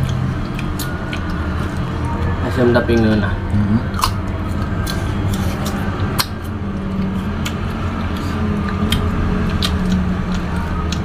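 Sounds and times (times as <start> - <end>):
low hum: 0.0 - 11.0
people eating fruit: 0.0 - 11.0.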